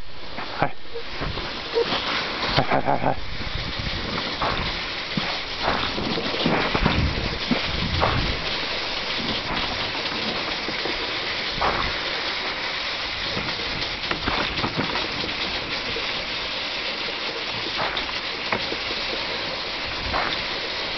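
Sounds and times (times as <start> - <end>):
sled runners hissing over snow: 0.0 - 20.9.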